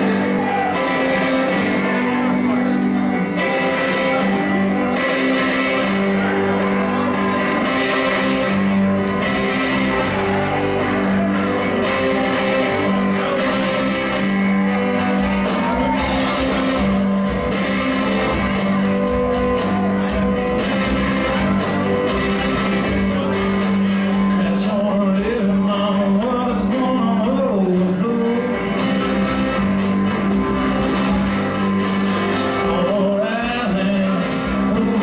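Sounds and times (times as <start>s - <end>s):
blues-rock band playing: 0.0s - 35.0s.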